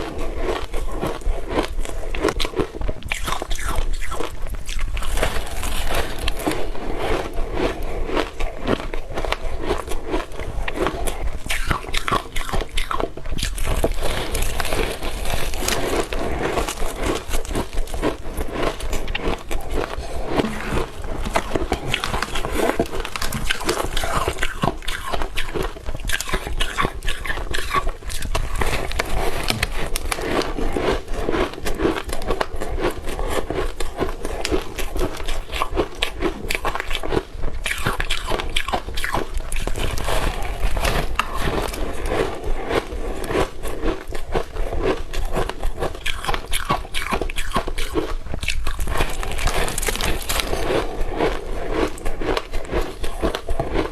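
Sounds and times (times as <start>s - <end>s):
chewing and crunching ice: 0.0s - 53.9s.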